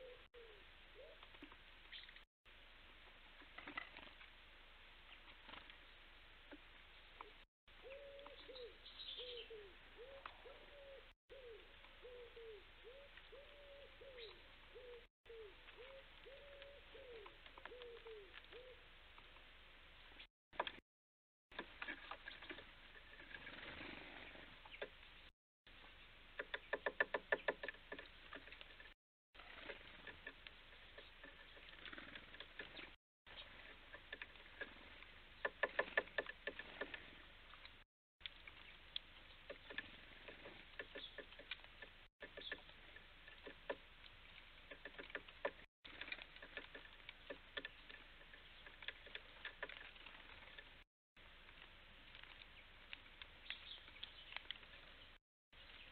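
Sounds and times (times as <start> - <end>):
birds pecking at feeders: 0.0 - 2.2, 3.0 - 20.8, 21.5 - 55.9.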